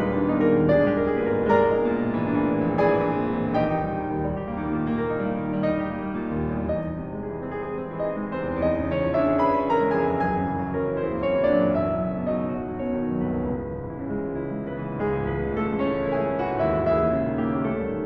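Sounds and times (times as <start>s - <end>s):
solo piano playing: 0.0s - 18.0s.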